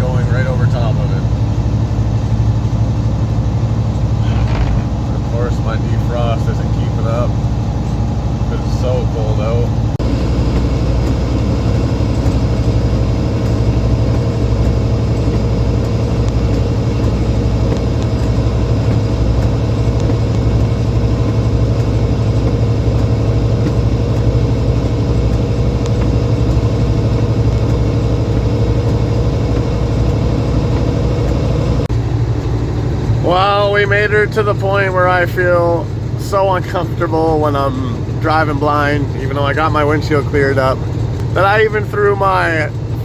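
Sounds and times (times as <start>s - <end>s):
defroster fan blowing: 0.0s - 43.0s
diesel truck engine droning: 0.0s - 43.0s.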